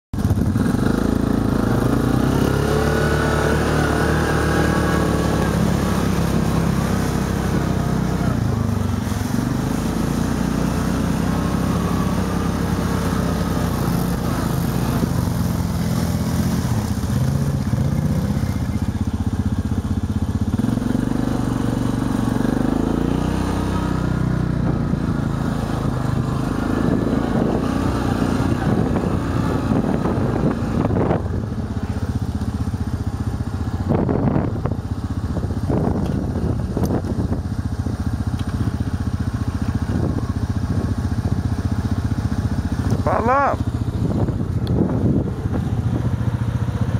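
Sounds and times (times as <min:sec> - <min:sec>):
quad bike engine revving: 0:00.2 - 0:46.9
wheels spinning through mud: 0:00.2 - 0:46.9.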